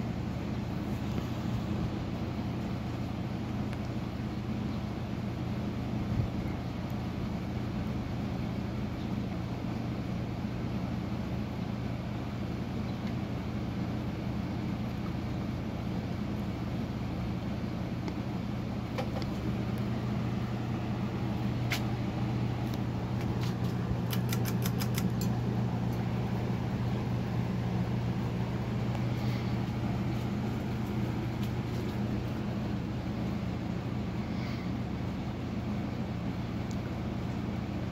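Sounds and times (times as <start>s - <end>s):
ceiling fan humming: 0.0s - 37.9s.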